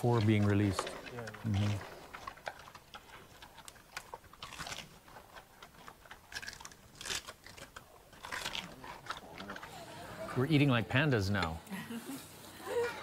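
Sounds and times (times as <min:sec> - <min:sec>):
crunchy chewing of food: 0:00.0 - 0:10.4.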